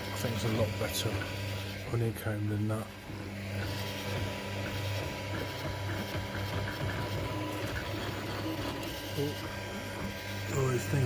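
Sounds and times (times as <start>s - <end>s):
low machine hum: 0.0s - 11.0s
stepper motors whirring: 0.0s - 11.0s.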